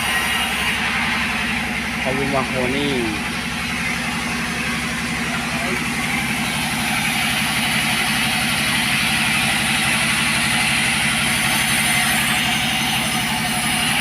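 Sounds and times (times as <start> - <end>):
chainsaw engine running: 0.0 - 14.0.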